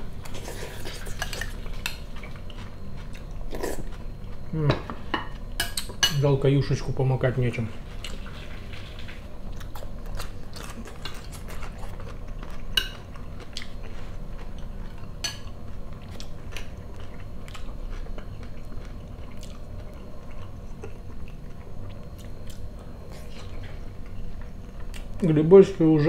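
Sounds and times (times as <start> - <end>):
person chewing food: 0.1 - 4.6, 7.9 - 25.2.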